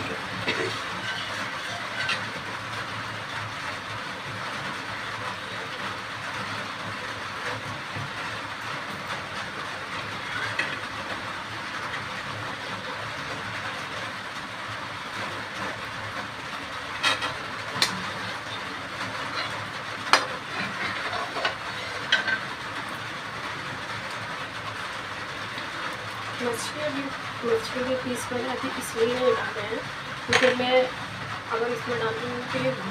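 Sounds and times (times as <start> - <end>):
curry sizzling in a pan: 0.0 - 32.9.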